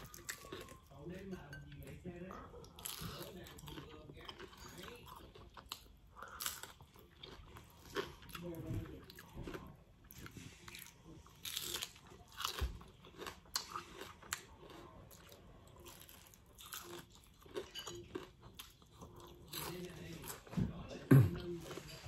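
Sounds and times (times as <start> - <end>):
crunching and chewing: 0.0 - 1.1, 1.7 - 22.0.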